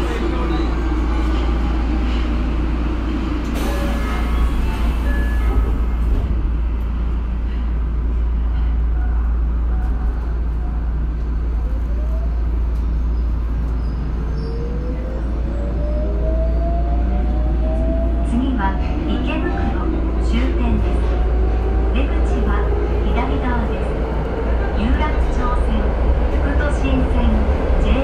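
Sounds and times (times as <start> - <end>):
subway train rumbling on rails: 0.0 - 28.0.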